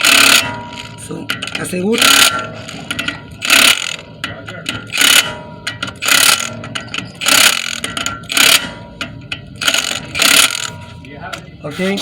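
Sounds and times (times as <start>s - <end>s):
hand ratchet clattering: 0.0s - 12.0s.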